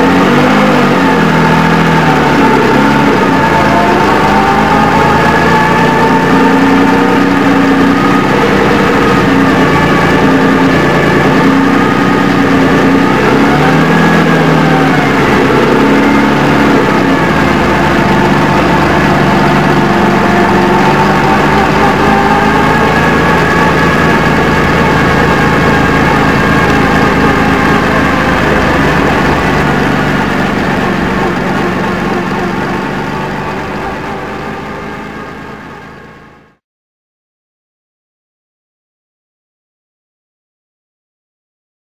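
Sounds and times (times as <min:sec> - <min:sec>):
car engine idling: 0:00.0 - 0:36.6.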